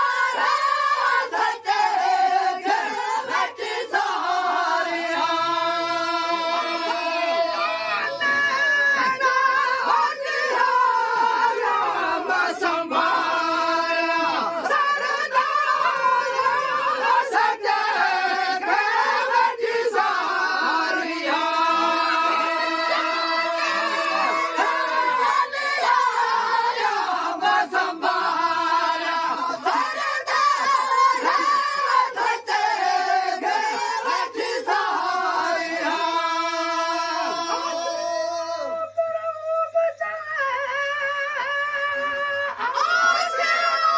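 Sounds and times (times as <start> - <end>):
men singing devotional song: 0.0 - 43.9.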